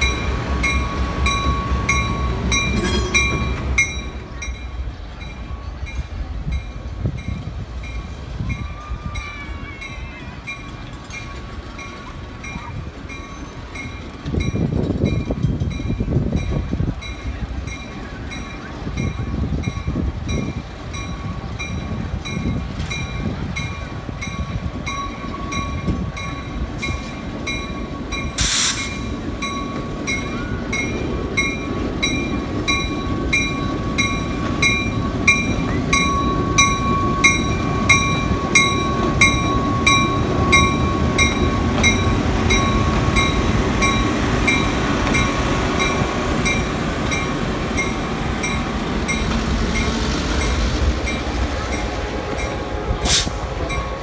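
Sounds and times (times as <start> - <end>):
diesel locomotive engine rumbling: 0.0 - 54.0.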